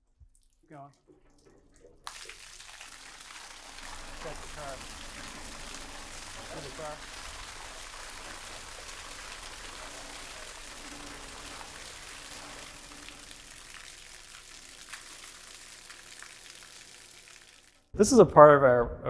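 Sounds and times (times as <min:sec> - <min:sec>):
water gushing onto floor: 0:00.4 - 0:17.9.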